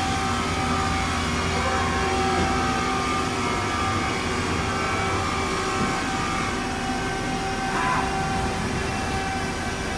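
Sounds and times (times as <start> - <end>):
pump motors and fans humming: 0.0 - 9.9.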